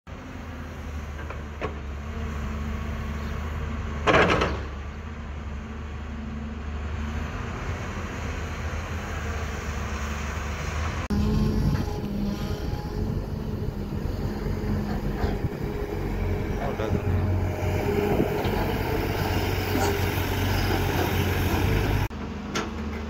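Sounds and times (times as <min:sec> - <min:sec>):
excavator diesel engine droning: 0:00.1 - 0:23.0.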